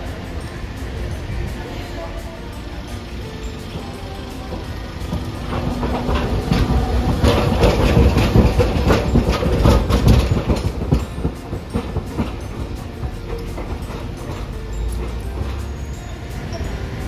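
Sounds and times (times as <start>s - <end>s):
streetcar rumble: 0.0s - 17.0s
wheels clattering on rail joints: 0.0s - 17.0s.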